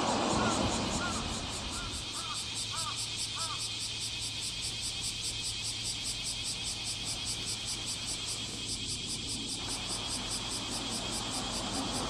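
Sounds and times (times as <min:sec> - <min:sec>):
cicadas pulsing: 0:00.0 - 0:12.0.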